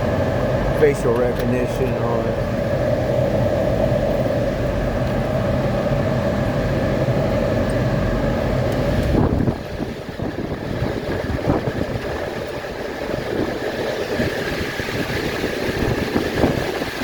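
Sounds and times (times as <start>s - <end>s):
cooling fans roaring: 0.0s - 17.0s.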